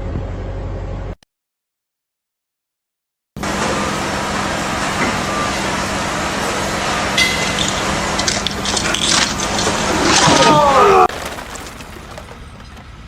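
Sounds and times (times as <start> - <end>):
heavy engine humming: 0.0 - 1.2, 3.4 - 13.0.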